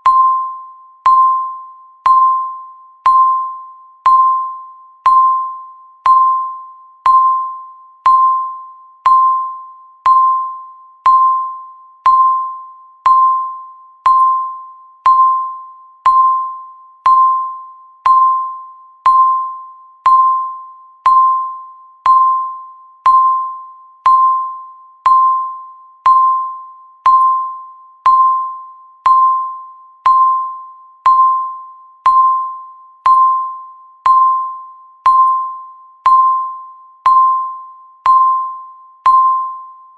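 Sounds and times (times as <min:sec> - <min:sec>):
timer bell-like ping: 0:00.0 - 0:39.9.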